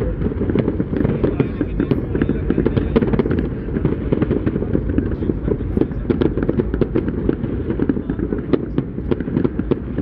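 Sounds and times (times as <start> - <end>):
fireworks booming and crackling: 0.0 - 10.0.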